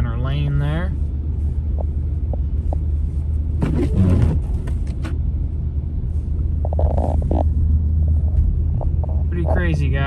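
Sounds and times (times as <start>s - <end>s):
truck engine and tyres rumbling: 0.0s - 10.0s.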